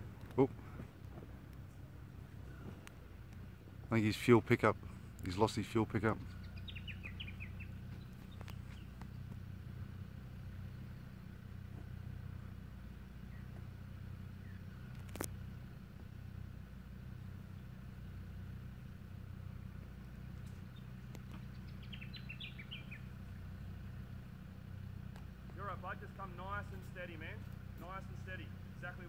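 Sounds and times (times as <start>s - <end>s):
birds chirping: 0.0s - 29.0s
distant engine idling: 0.0s - 29.0s.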